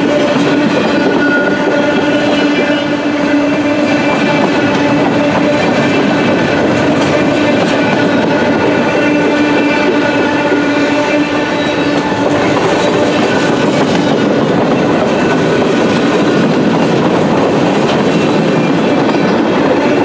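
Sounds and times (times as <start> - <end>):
freight train wheels clattering: 0.0 - 20.0.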